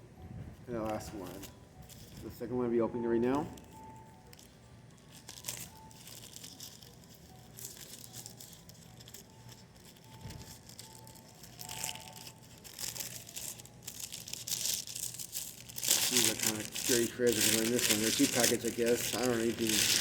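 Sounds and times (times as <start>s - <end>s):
wrapper crinkling and tearing: 3.3s - 20.0s.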